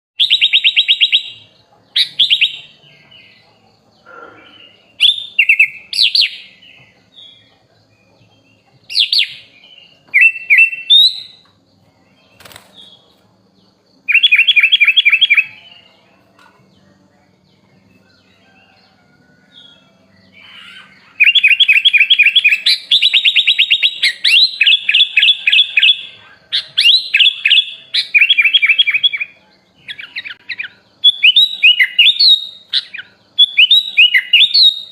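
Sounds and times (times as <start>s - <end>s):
bird chattering song: 0.2s - 34.9s.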